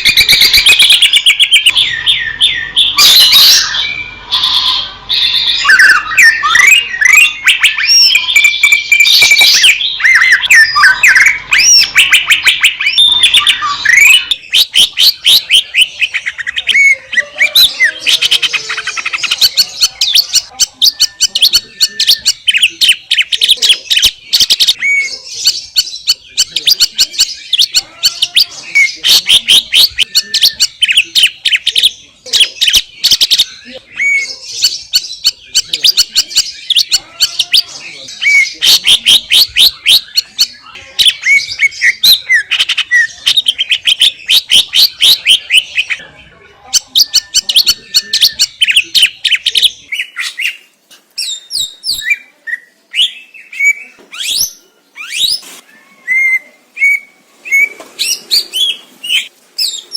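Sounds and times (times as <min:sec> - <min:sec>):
bird singing loudly: 0:00.0 - 0:46.0, 0:46.7 - 0:59.9.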